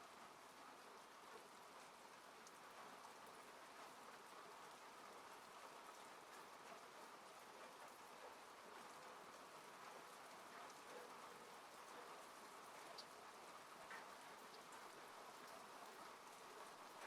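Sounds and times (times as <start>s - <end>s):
rain on a car: 0.0s - 17.0s
raindrop ticks: 1.1s - 17.0s.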